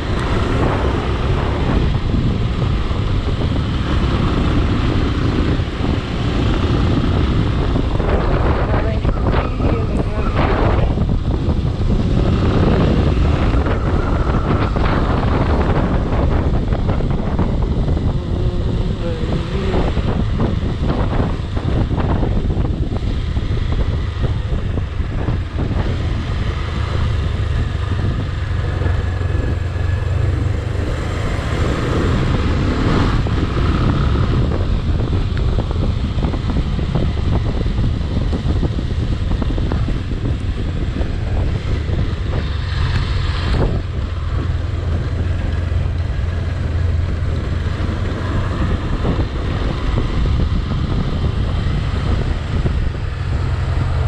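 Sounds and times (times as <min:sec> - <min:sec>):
vehicle engine running: 0:00.0 - 0:54.0
wind buffeting microphone: 0:00.0 - 0:54.0.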